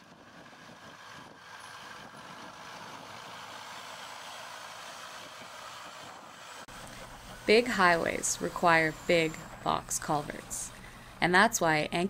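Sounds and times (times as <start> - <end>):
truck engine and tyres on dirt: 0.0 - 11.2.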